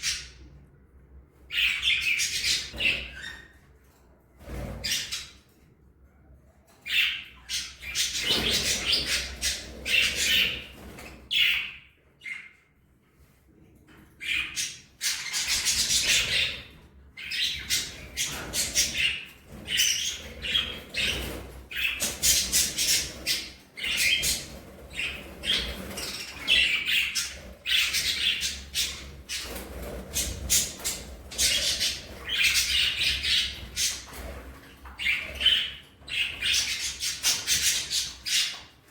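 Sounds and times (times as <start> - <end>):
budgerigars chirping and chattering: 0.0 - 0.5, 1.5 - 3.6, 4.5 - 5.5, 6.8 - 12.6, 14.2 - 38.7.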